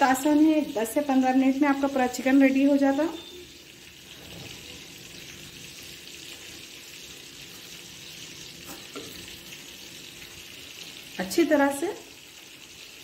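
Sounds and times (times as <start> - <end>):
chicken sizzling over a flame: 0.0 - 13.0.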